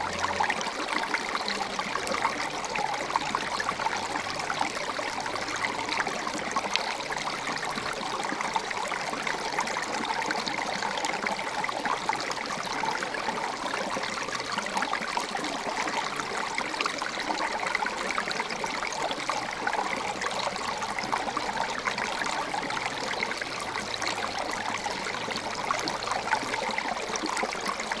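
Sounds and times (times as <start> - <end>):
creek water trickling over rocks: 0.0 - 28.0.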